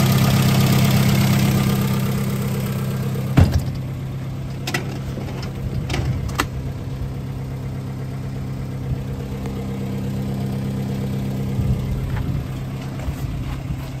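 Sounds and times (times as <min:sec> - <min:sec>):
forklift engine idling: 0:00.0 - 0:14.0.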